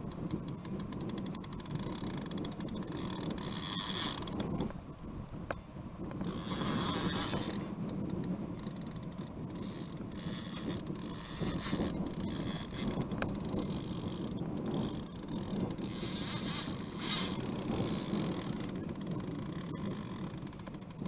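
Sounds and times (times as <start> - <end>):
river water around boat: 0.0 - 21.0
wind rumble: 0.0 - 21.0.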